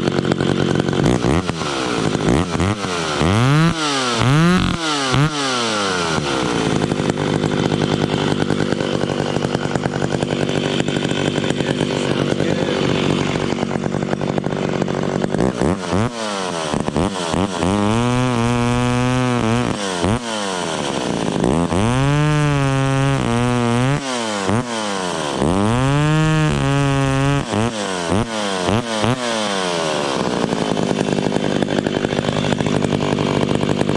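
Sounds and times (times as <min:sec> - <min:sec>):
chainsaw revving: 0:00.0 - 0:33.9.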